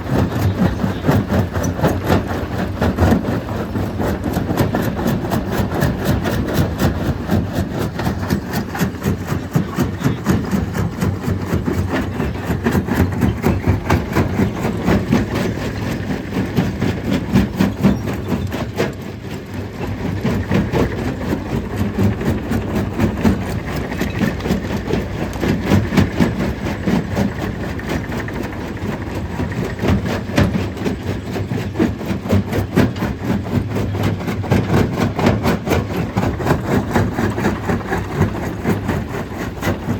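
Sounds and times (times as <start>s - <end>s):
stone crushing machine clattering: 0.0s - 39.9s.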